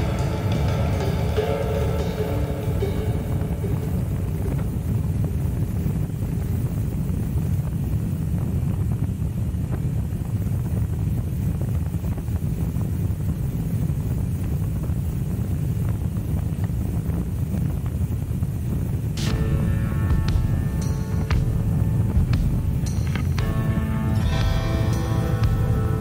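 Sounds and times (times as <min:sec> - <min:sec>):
motorcycle engine and road noise: 0:00.0 - 0:26.0
wind rumble on microphone: 0:00.0 - 0:26.0.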